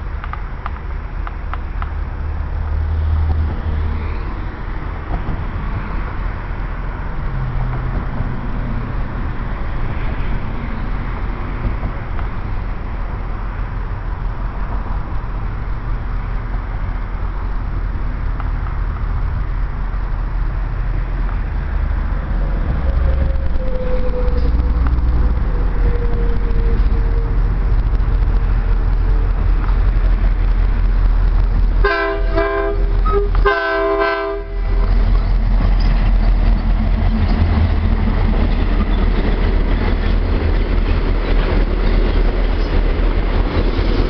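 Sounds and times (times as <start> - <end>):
diesel locomotives running: 0.0 - 44.0
wind rumbling on microphone: 0.0 - 44.0.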